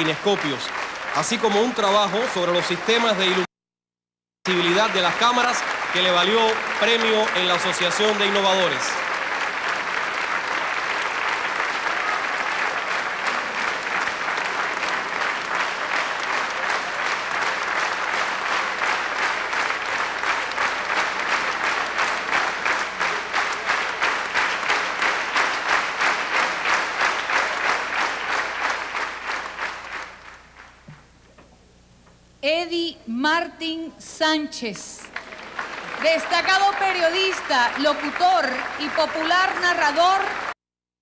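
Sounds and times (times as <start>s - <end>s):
audience applauding: 0.0s - 3.5s, 4.5s - 31.0s, 35.0s - 40.6s
rhythmic clapping in unison: 0.0s - 3.5s, 4.5s - 31.1s, 35.0s - 40.6s.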